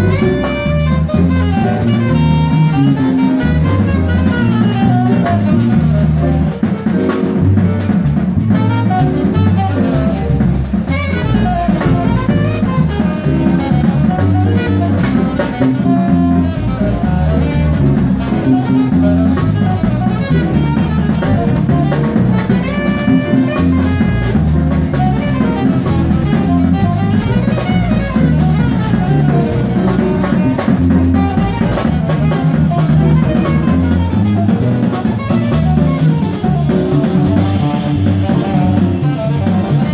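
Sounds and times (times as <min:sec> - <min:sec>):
drum kit: 0:00.0 - 0:39.9
jazz bass line: 0:00.0 - 0:39.9.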